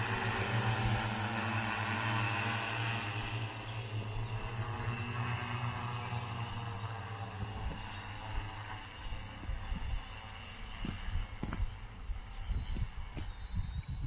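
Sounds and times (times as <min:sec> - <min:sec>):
steady mechanical hum: 0:00.0 - 0:14.0
thin high buzz: 0:00.0 - 0:14.0.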